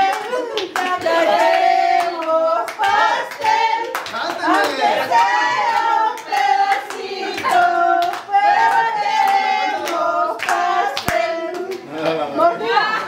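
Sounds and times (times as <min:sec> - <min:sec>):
people clapping in time: 0:00.0 - 0:12.2
group singing: 0:00.0 - 0:13.0.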